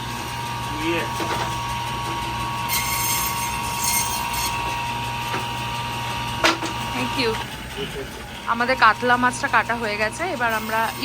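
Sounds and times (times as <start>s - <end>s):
electric band saw whining: 0.0s - 11.0s.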